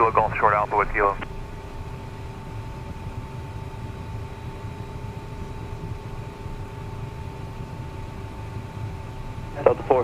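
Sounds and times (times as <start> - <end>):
faint jet engine whines: 0.0 - 10.0
low cockpit rumble: 0.0 - 10.0.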